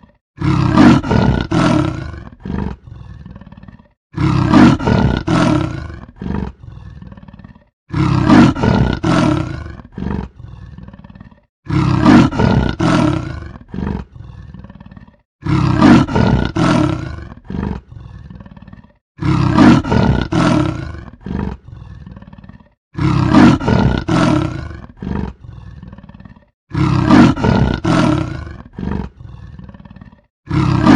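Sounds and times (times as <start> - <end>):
leopard grunts: 0.0 - 30.9
leopard roaring: 0.0 - 30.9.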